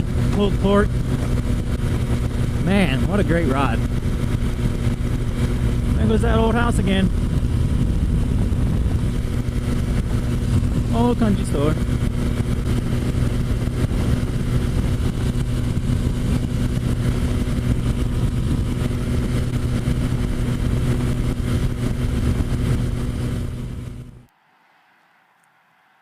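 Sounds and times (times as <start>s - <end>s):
motorcycle engine running: 0.0s - 24.3s
wind noise on microphone: 0.0s - 24.3s.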